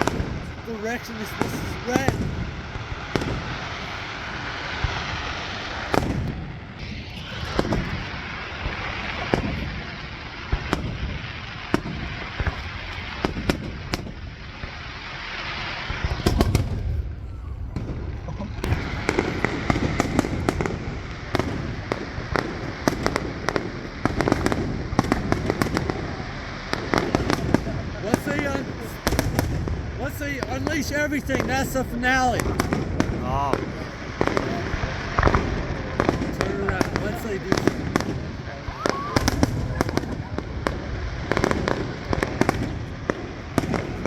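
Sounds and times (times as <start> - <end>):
fireworks booming: 0.0 - 44.0
fireworks crackling: 0.0 - 44.0.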